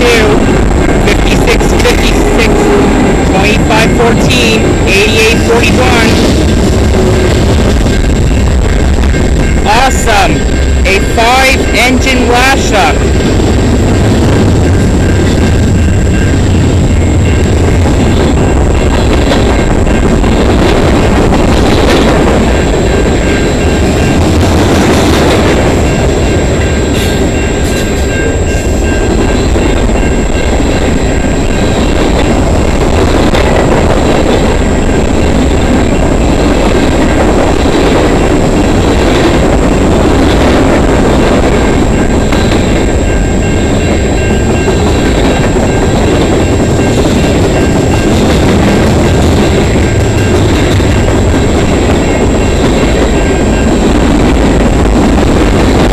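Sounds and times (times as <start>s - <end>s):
freight train rolling past: 0.0s - 55.9s
steel wheels rattling on rails: 0.0s - 55.9s.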